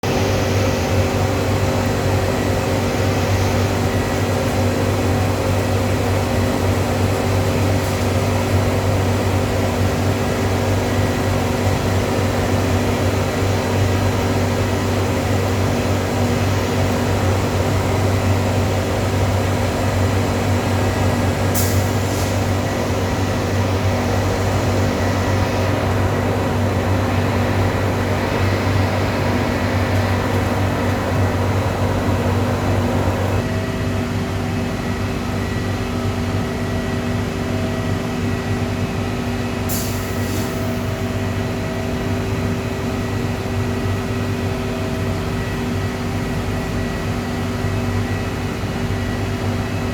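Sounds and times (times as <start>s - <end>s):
loud steady machine hum: 0.0s - 49.9s.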